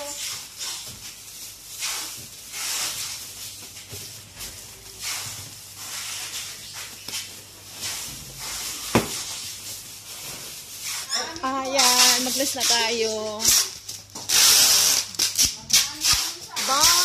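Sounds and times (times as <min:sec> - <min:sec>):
plastic bags rustling and crinkling: 0:00.0 - 0:17.0.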